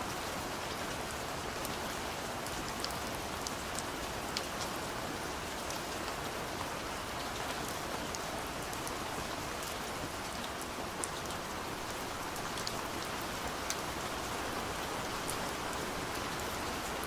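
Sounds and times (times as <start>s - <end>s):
rain falling on a window: 0.0s - 17.0s.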